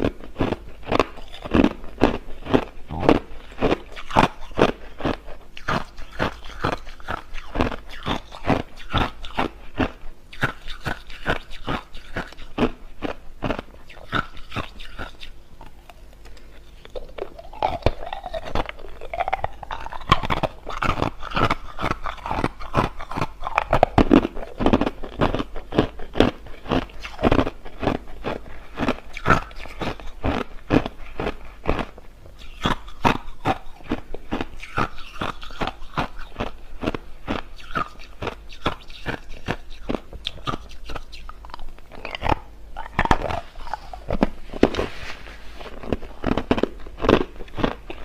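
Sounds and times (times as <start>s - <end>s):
person chewing crushed ice: 0.0s - 48.0s.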